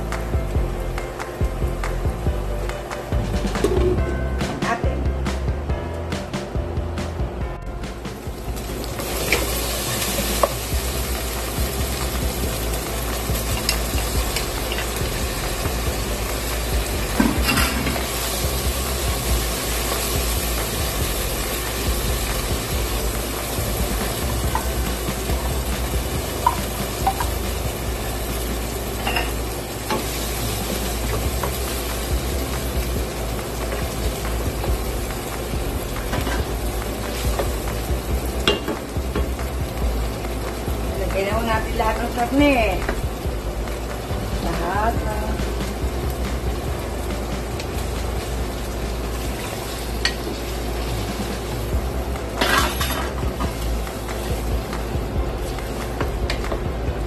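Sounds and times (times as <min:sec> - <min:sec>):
sauce sizzling in a pot: 0:08.0 - 0:57.0.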